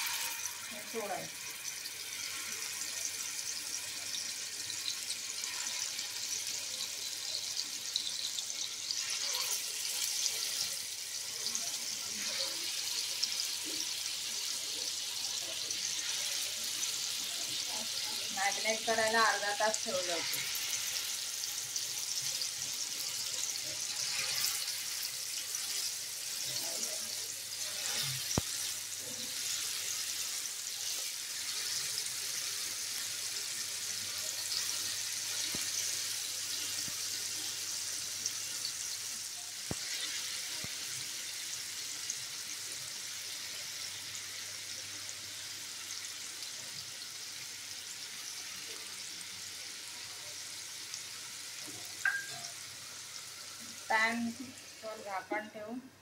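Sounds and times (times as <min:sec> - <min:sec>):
chicken sizzling in hot oil: 0:00.0 - 0:55.8.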